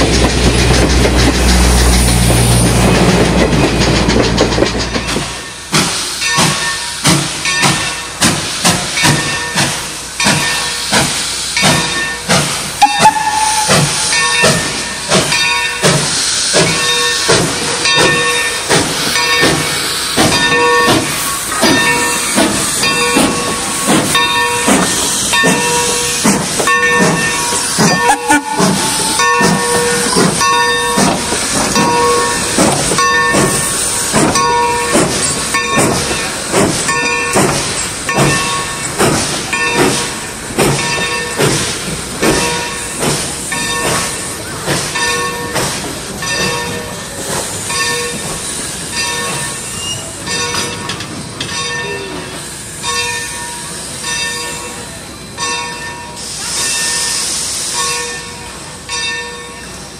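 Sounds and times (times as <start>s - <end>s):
train rolling by: 0.0s - 59.9s
locomotive bell ringing: 4.8s - 8.2s, 8.8s - 59.9s.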